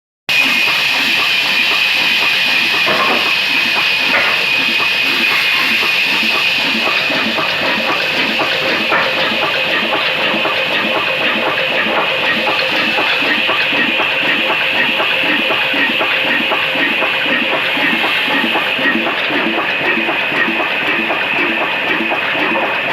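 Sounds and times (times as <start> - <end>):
sawmill saw whining: 0.3 - 22.9
diesel engine running: 0.4 - 22.9.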